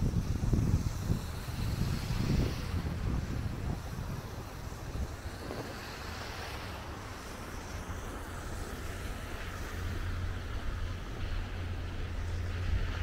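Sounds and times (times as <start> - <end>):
low engine hum: 0.0 - 13.0
passing traffic: 0.0 - 13.0
wind buffeting microphone: 0.0 - 13.0.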